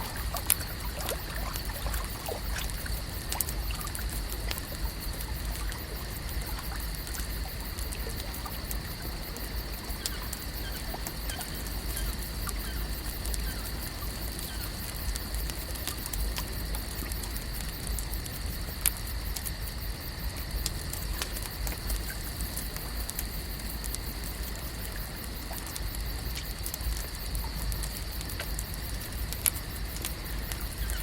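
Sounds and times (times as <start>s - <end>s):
constant high hum: 0.0s - 31.0s
crackling clicks: 0.0s - 31.0s.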